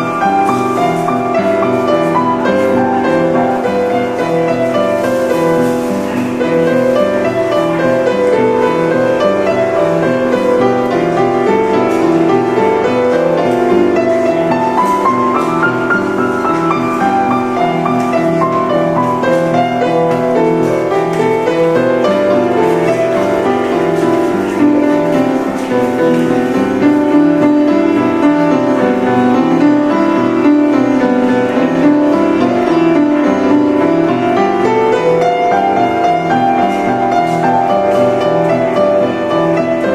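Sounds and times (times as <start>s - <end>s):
upright piano playing: 0.0s - 39.9s.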